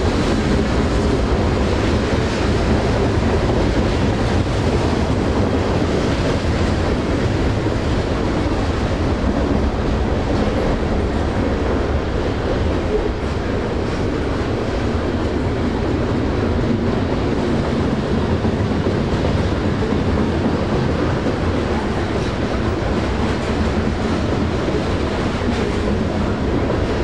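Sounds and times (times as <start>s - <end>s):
train rolling rumble: 0.0s - 27.0s.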